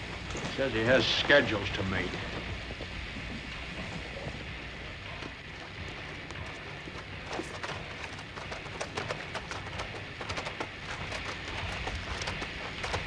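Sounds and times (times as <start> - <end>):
horse hoofbeats on hard ground: 0.0 - 13.0
steady hiss: 0.0 - 13.0.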